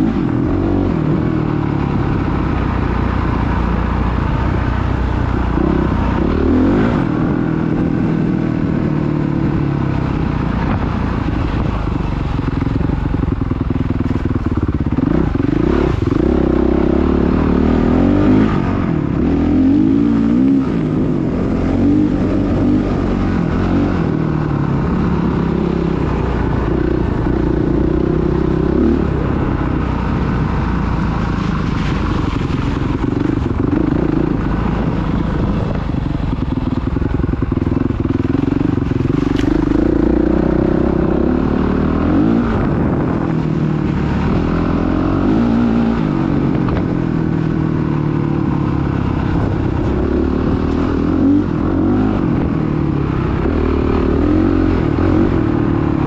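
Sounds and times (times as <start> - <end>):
dirt bike engine revving: 0.0 - 11.8, 14.0 - 56.0.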